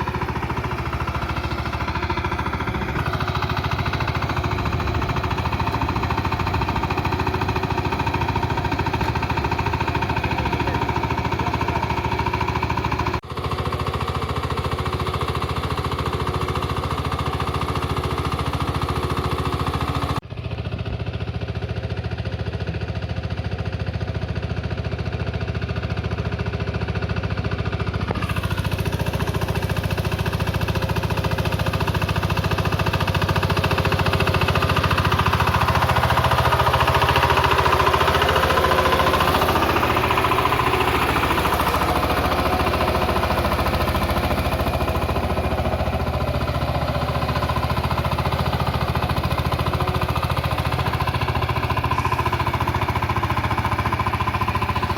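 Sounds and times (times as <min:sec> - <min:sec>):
diesel tiller engine clattering: 0:00.0 - 0:54.9.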